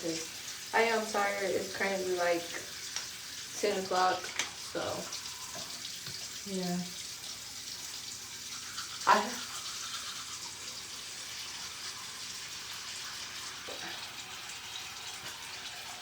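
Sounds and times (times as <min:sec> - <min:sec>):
sink tap running: 0:00.0 - 0:16.0.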